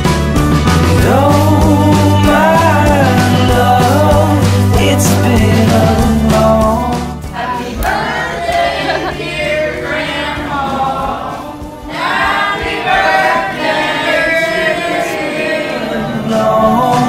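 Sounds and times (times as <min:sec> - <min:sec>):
choir singing a song: 0:00.9 - 0:17.0.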